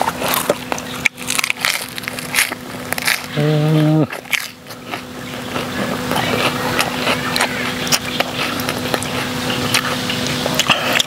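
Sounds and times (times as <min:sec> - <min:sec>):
chewing crisp lettuce: 0:00.0 - 0:11.0
faint steady hum: 0:00.0 - 0:11.0.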